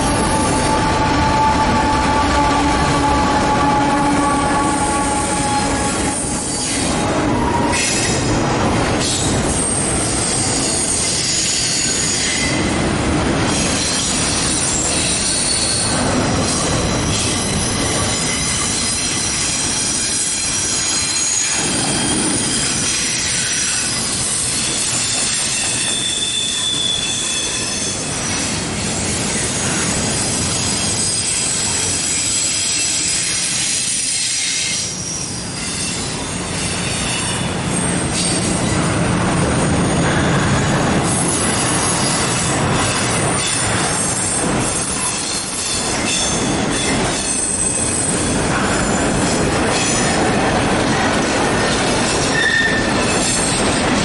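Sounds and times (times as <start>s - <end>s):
freight train wheels squealing: 0.0s - 12.8s, 13.5s - 54.0s
train running noise: 0.0s - 54.0s.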